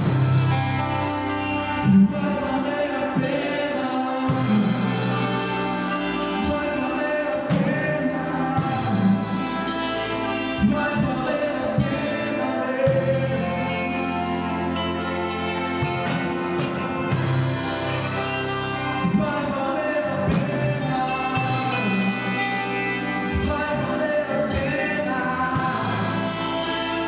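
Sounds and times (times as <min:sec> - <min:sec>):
person singing: 0:00.0 - 0:27.0
worship band playing: 0:00.0 - 0:27.0.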